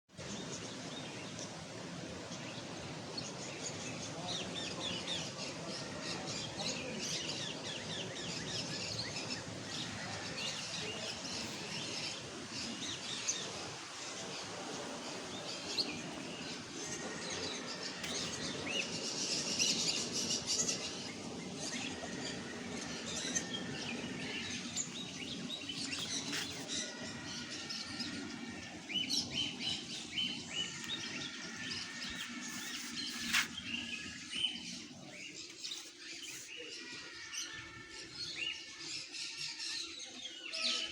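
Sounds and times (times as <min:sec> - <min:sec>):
birds chirping: 0:02.3 - 0:39.4.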